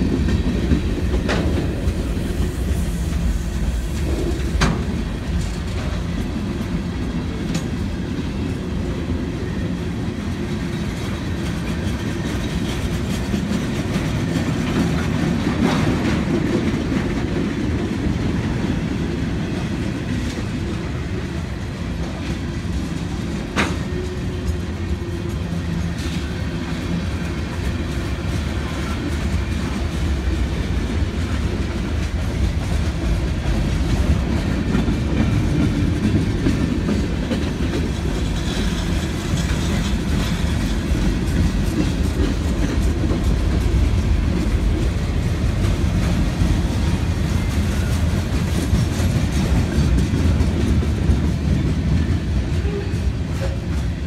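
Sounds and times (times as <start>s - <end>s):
faint clickety-clack: 0.0s - 8.0s, 10.2s - 54.0s
train wheels rumbling on rails: 0.0s - 54.0s.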